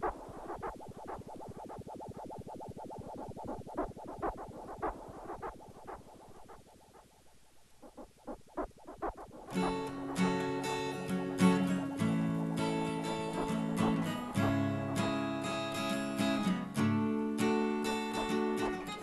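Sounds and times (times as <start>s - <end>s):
crackling synthesizer texture: 0.0s - 15.7s, 18.0s - 19.0s.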